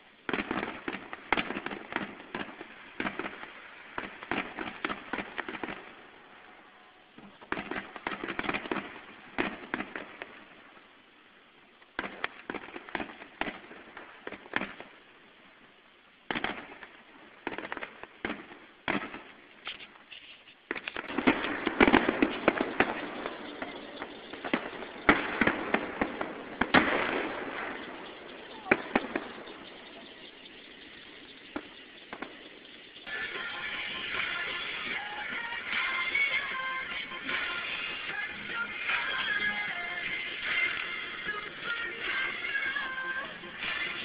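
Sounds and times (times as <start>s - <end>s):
fireworks exploding: 0.0s - 44.0s.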